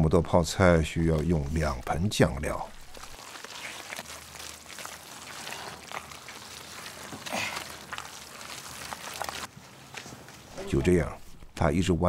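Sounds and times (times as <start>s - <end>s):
wet squishing of kneaded paste: 1.0s - 11.5s.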